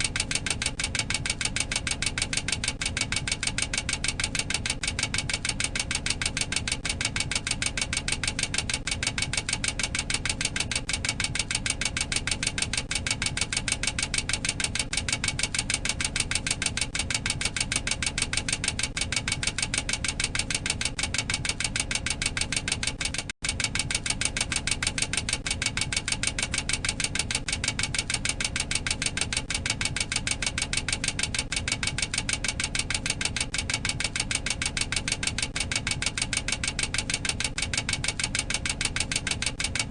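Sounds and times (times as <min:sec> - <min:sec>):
warning clacker sharp clicks: 0:00.0 - 0:39.9.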